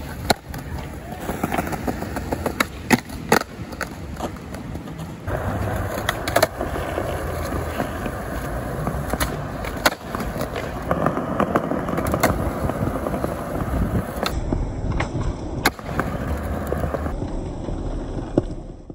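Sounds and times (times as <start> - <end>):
skateboard clacks: 0.0 - 18.9
skateboard wheels rolling on tiles: 0.0 - 18.9.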